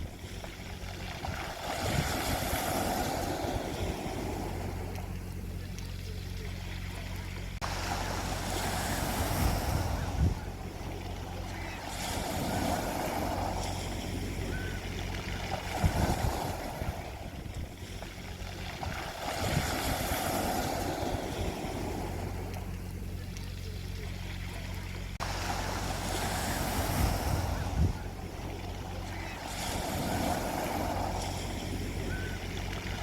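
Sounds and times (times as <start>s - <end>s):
low hum: 0.0s - 33.0s
waves breaking on beach: 0.0s - 33.0s.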